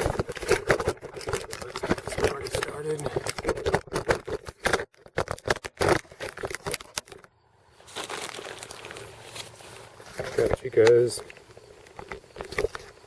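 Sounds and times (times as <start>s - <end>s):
camp cooking gear clicking: 0.0s - 7.3s, 7.9s - 13.0s.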